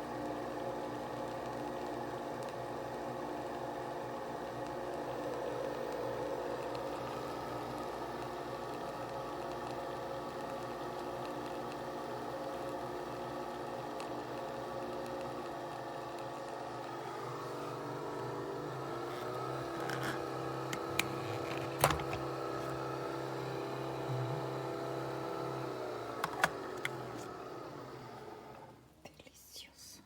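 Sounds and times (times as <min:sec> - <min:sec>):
kitchen appliance motor humming: 0:00.0 - 0:28.8.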